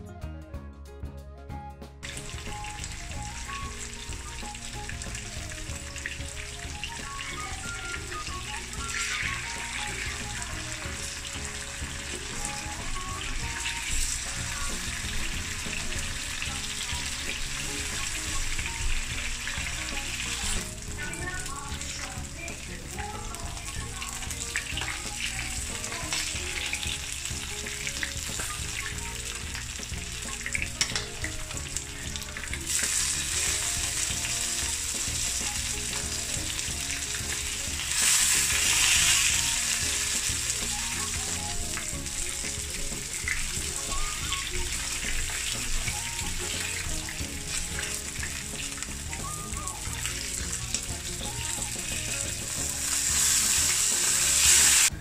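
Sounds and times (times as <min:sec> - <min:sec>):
fish sizzling in oil: 0:02.0 - 0:55.0.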